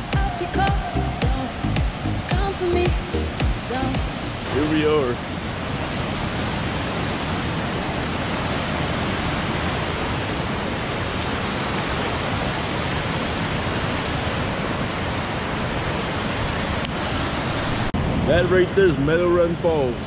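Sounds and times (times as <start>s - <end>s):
waterfall rushing water: 0.0s - 20.0s.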